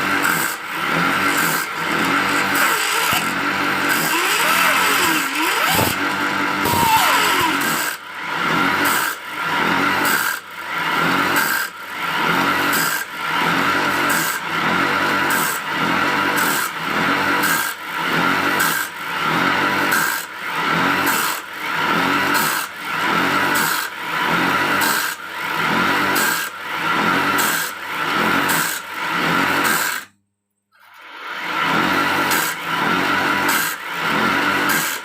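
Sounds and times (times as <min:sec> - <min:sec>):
wood lathe motor running: 0:00.0 - 0:30.0, 0:30.9 - 0:35.0
tool scraping spinning wood: 0:00.0 - 0:30.1, 0:30.8 - 0:35.0.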